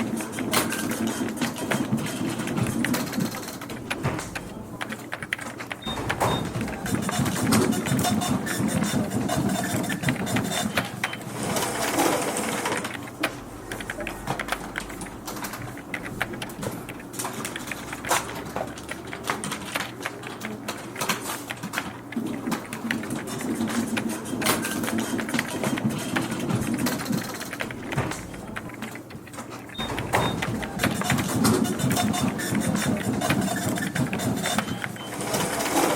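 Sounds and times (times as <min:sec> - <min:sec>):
background chatter: 0:00.0 - 0:35.9
keyboard typing: 0:00.0 - 0:35.9.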